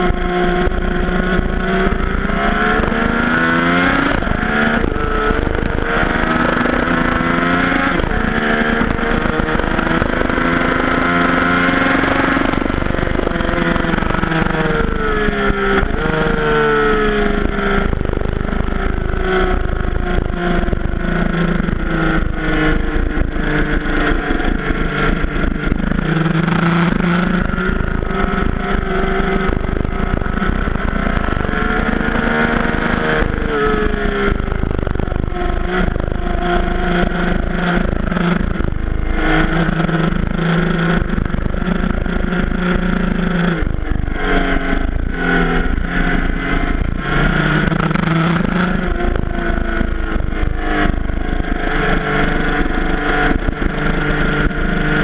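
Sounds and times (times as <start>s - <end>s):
motorcycle engine revving: 0.0s - 55.0s
wind noise on microphone: 0.0s - 55.0s.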